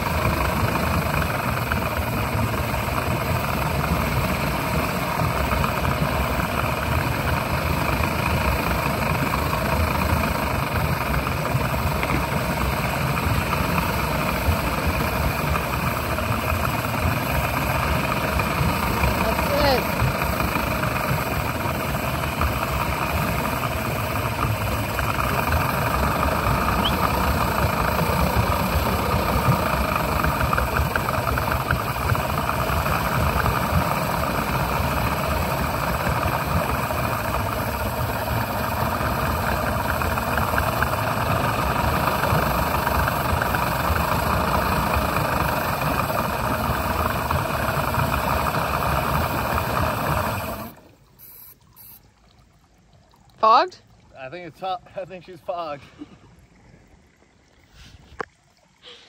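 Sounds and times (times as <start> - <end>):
oil spraying: 0.0 - 52.0, 57.7 - 59.0
outboard engine running: 0.0 - 59.0.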